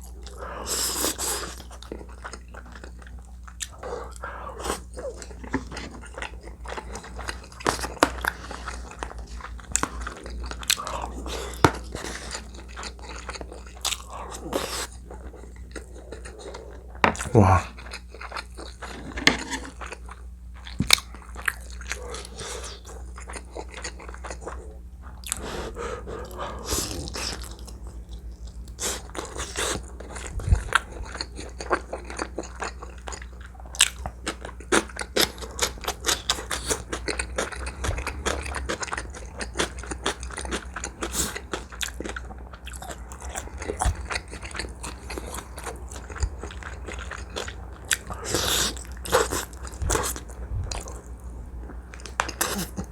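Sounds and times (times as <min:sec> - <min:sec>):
chewing and wet smacking: 0:01.0 - 0:52.9.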